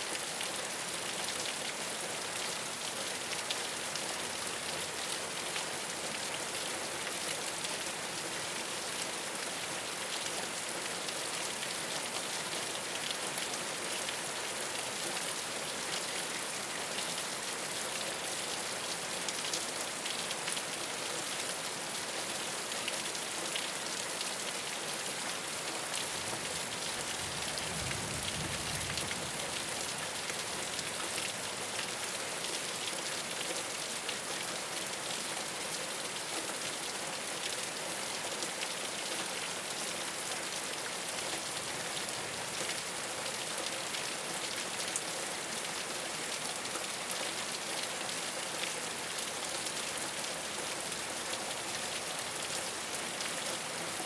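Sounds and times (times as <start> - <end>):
rain on a rooftop: 0.0 - 54.0.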